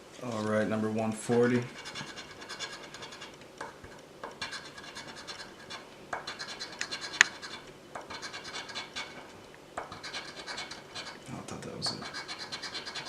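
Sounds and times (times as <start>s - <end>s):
scratching lottery ticket: 0.3s - 13.0s.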